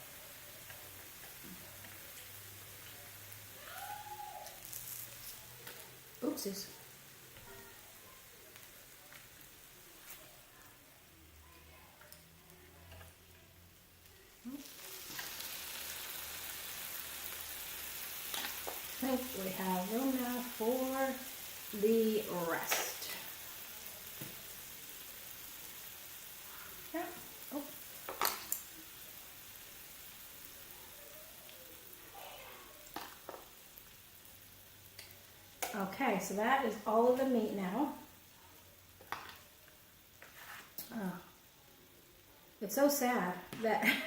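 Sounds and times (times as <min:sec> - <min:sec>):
meat sizzling on a hot grill: 0:00.0 - 0:44.0.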